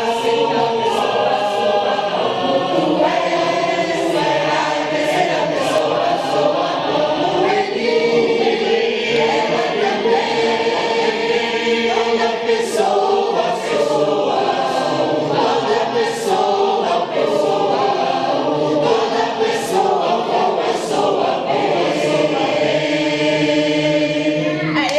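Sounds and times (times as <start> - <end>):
church choir singing: 0.0 - 24.9.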